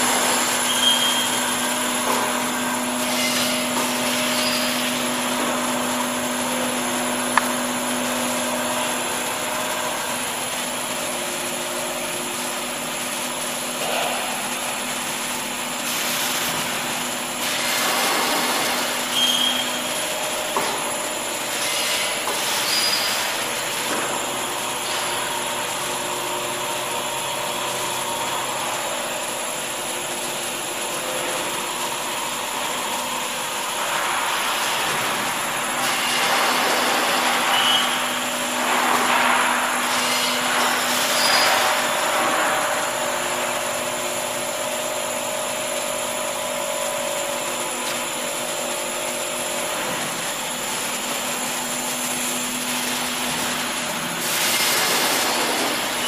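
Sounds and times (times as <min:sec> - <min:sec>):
machine motors whirring and humming: 0:00.0 - 0:56.0.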